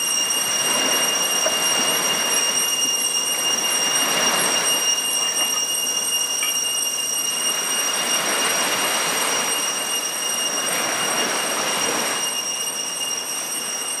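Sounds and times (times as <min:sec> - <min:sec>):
high-pitched whine: 0:00.0 - 0:14.0
sea waves washing onto beach: 0:00.0 - 0:14.0.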